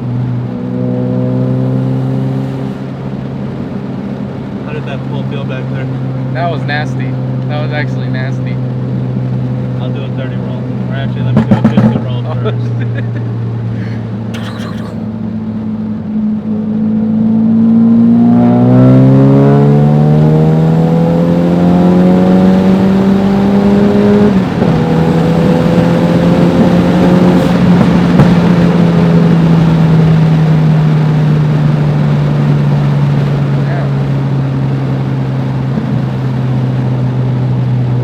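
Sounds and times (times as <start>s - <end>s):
car engine under full throttle: 0.0s - 38.0s.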